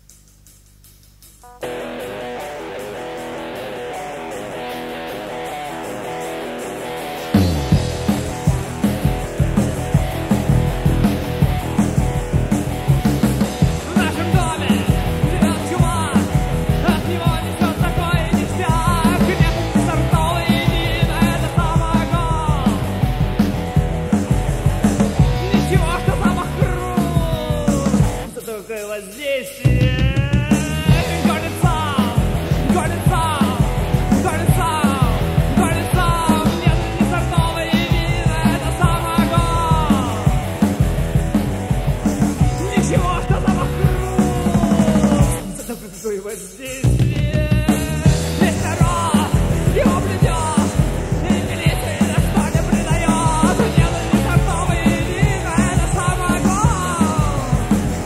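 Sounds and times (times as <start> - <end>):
rock band playing: 1.3 - 58.0.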